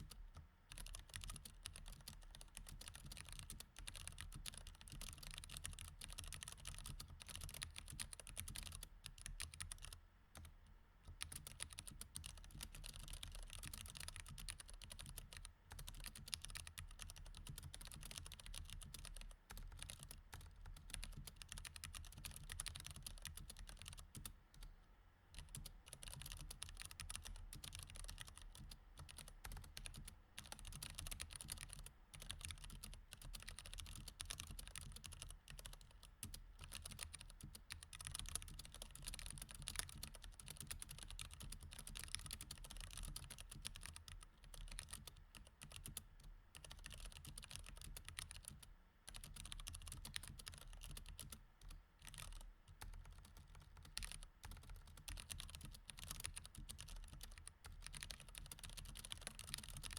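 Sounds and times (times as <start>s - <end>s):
typing on mechanical keyboard: 0.0s - 10.5s, 11.1s - 24.7s, 25.4s - 59.9s.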